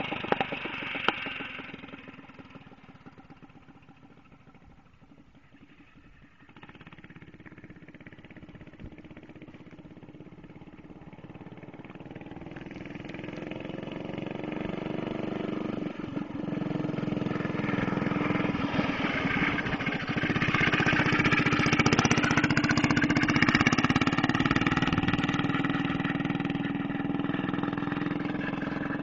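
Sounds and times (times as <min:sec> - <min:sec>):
go-kart engine passing: 0:00.0 - 0:29.0.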